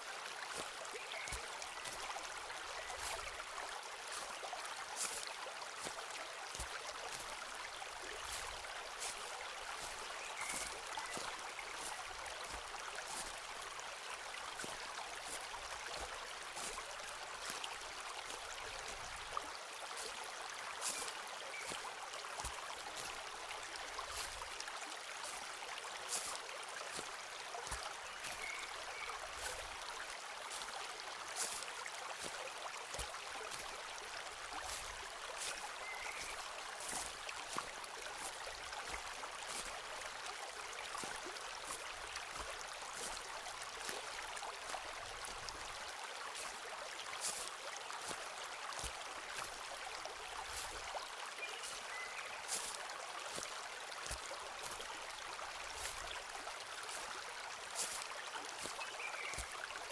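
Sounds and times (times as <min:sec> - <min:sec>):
footsteps on leaf litter and twigs: 0:00.3 - 0:13.7, 0:14.3 - 0:59.9.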